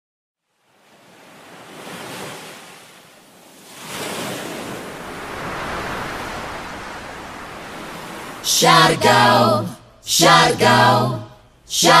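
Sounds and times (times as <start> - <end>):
ocean waves washing in: 0.4 - 12.0.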